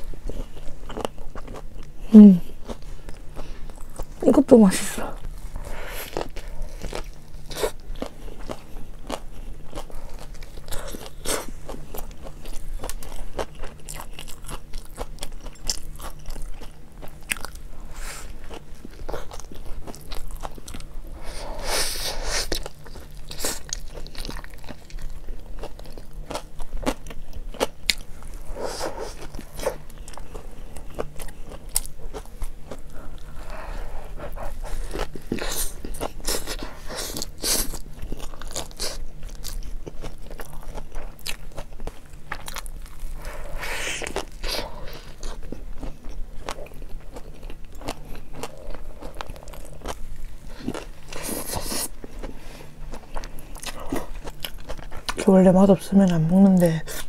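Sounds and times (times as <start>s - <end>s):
biting and chewing food: 0.0s - 4.6s, 5.2s - 57.0s.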